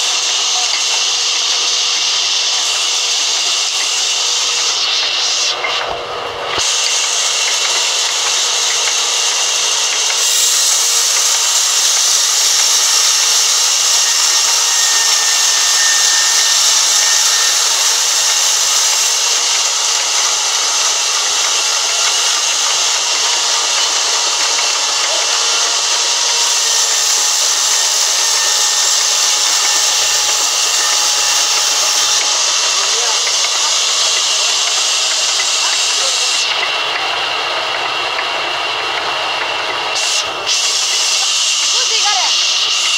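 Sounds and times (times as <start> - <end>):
band saw cutting wood: 0.0 - 42.9.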